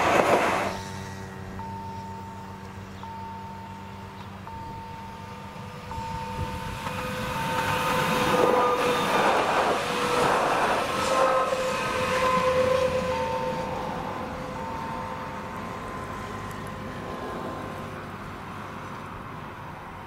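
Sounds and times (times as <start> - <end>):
steady whine: 0.0 - 19.1
train wheels rumbling on rails: 0.0 - 20.0.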